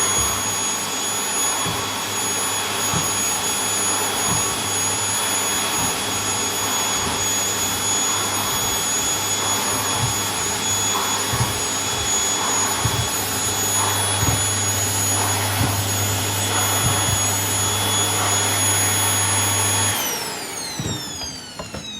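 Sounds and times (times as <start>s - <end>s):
vacuum cleaner running: 0.0s - 21.9s
vacuum motor spinning down: 0.0s - 21.9s.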